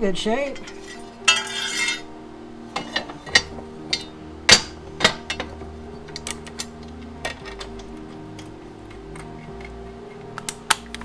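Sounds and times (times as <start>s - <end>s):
hand tools clanking on metal: 0.4s - 2.1s, 2.7s - 11.0s.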